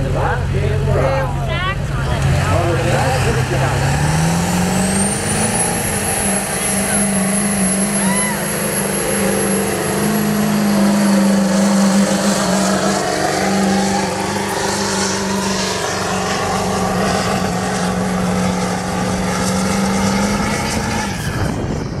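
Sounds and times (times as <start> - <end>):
diesel engine droning at full load: 0.0 - 22.0.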